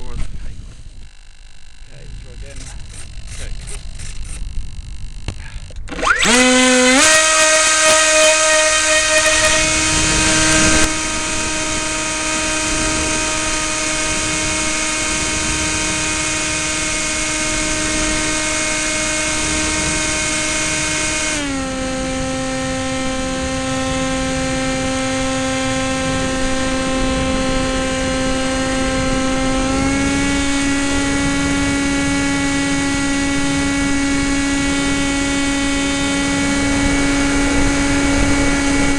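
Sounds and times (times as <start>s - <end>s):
model plane propeller whine: 0.0s - 38.9s.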